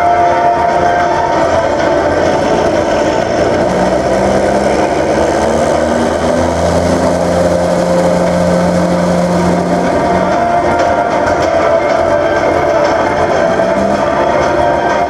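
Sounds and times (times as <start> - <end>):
tank diesel engines running: 0.0 - 15.0.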